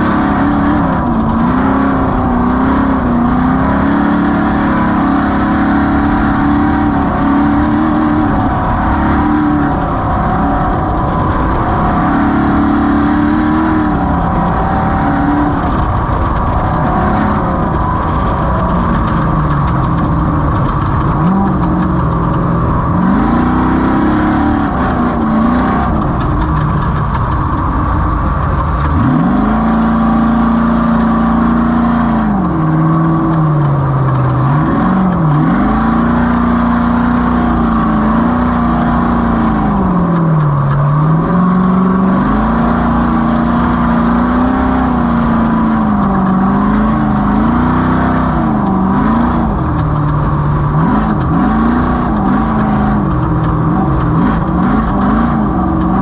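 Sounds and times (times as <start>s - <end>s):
race vehicle engine revving: 0.0s - 56.0s.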